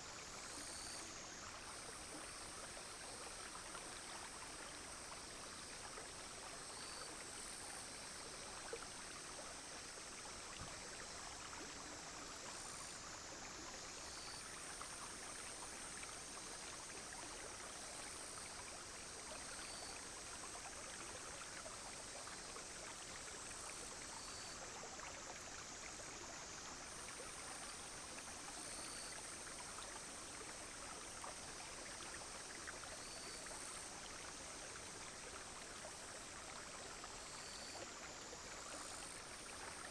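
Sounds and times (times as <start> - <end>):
drone of cicadas: 0.0 - 39.9
faint insect chirps: 0.0 - 39.9
stream flowing over stones: 0.0 - 39.9.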